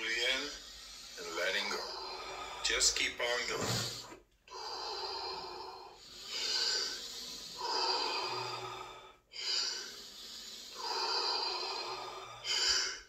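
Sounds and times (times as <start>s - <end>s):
man breathing forcefully: 0.5s - 2.9s, 3.5s - 13.0s.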